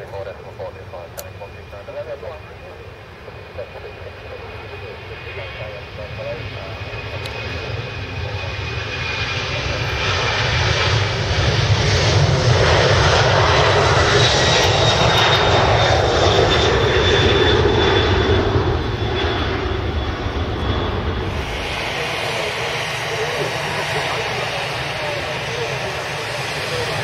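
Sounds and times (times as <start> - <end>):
jet airliner taking off: 0.0 - 27.0.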